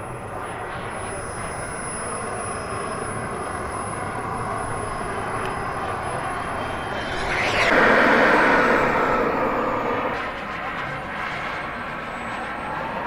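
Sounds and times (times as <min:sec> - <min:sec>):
model jet engine hiss and whine: 0:00.0 - 0:13.0.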